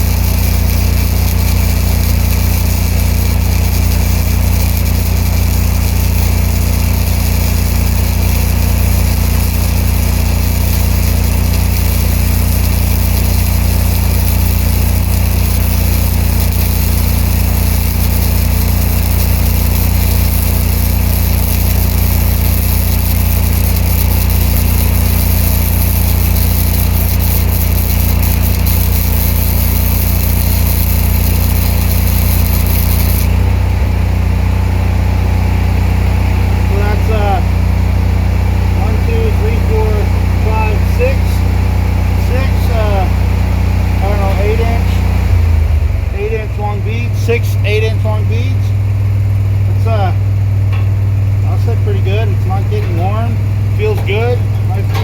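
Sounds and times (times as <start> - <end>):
welder engine running: 0.0 - 55.0.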